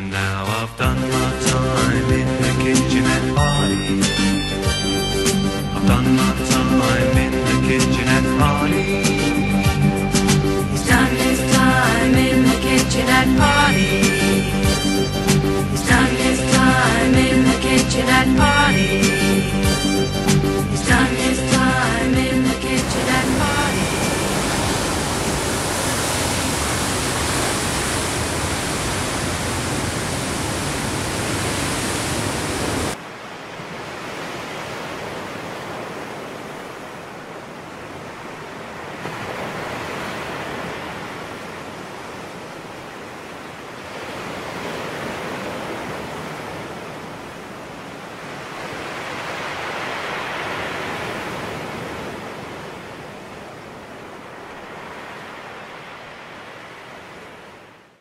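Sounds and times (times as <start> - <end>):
ocean waves rushing: 1.1 - 58.0.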